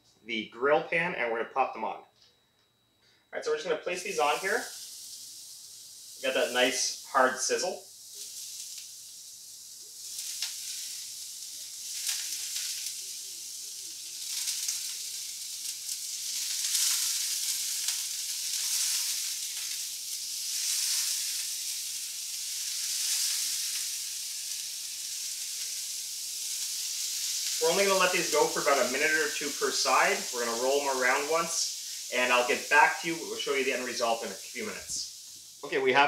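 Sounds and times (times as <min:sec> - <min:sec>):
asparagus sizzling on a grill pan: 0:03.4 - 0:36.0.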